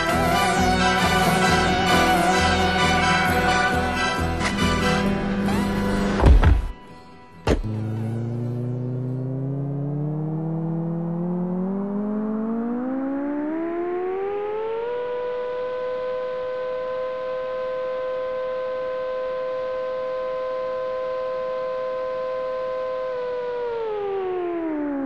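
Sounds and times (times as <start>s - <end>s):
rising synthesizer tone: 0.0s - 6.7s, 7.4s - 25.0s.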